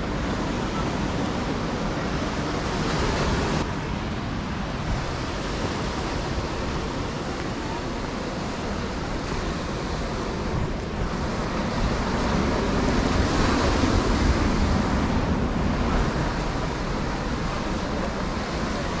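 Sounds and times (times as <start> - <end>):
ocean surf rushing: 0.0 - 19.0
wind: 0.0 - 19.0.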